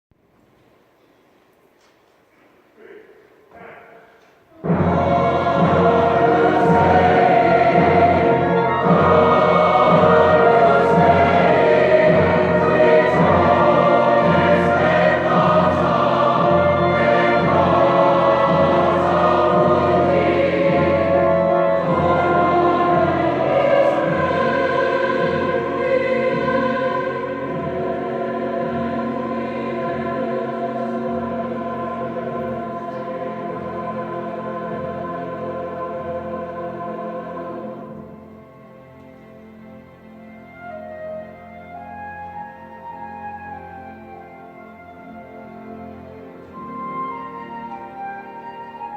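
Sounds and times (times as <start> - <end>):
choir singing sustained chords: 3.6 - 48.9.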